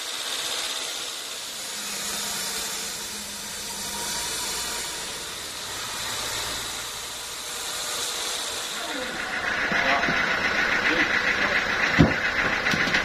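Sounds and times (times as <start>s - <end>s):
band sawmill running: 0.0s - 13.0s.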